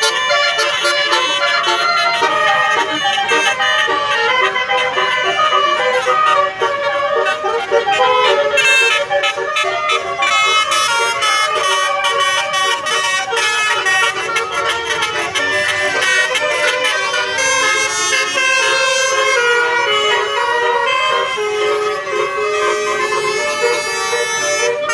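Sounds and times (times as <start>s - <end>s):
multi-tone bus horn melody: 0.0s - 24.9s.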